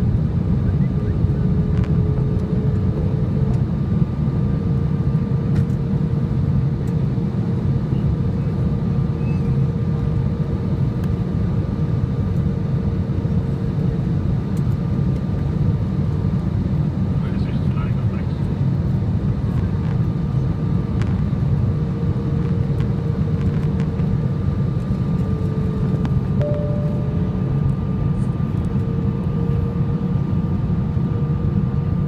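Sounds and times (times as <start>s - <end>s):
jet engine cabin rumble: 0.0s - 32.0s
steady engine hum: 0.0s - 32.0s.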